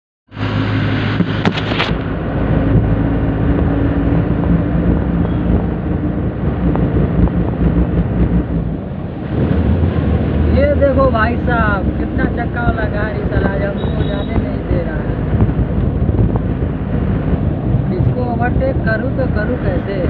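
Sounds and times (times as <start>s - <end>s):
road rumble: 0.3s - 20.0s
vehicle engine drone: 0.3s - 20.0s.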